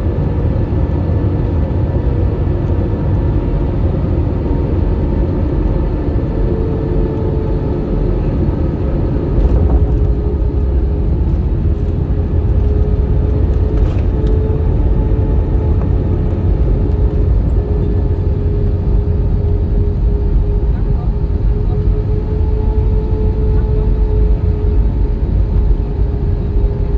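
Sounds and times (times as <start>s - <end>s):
jet engines running: 0.0s - 26.9s.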